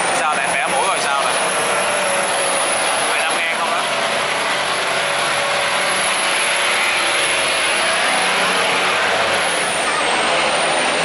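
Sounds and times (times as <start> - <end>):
boat engines roaring: 0.0 - 11.0
water rushing through sluice gate: 0.0 - 11.0.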